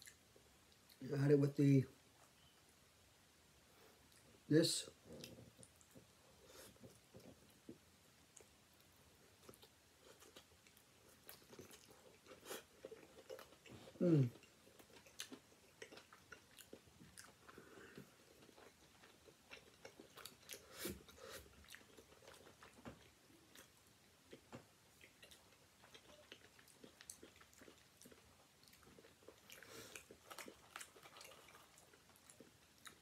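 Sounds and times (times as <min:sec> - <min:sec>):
person chewing food: 0:05.0 - 0:33.0.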